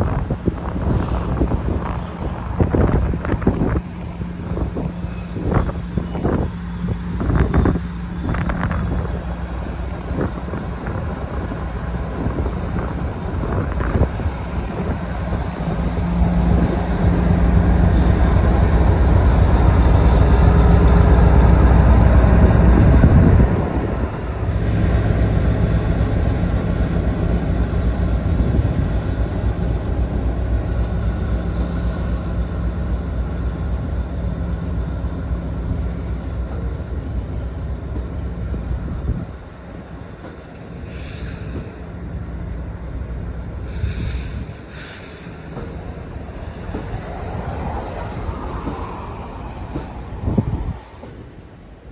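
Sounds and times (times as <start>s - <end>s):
diesel locomotive engine droning: 0.0s - 51.9s.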